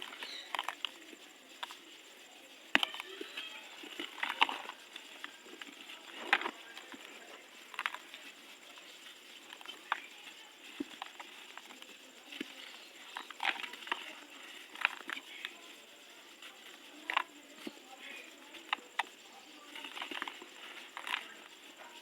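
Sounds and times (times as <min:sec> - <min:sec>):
dry material crunching: 0:00.0 - 0:22.0.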